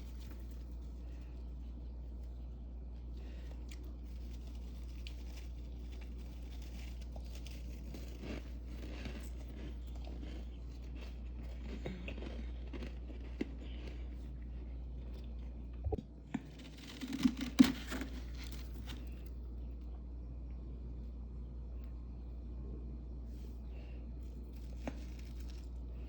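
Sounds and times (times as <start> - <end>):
freezer frost crunching: 0.0 - 20.0, 23.4 - 26.0
steady low hum: 0.0 - 26.0.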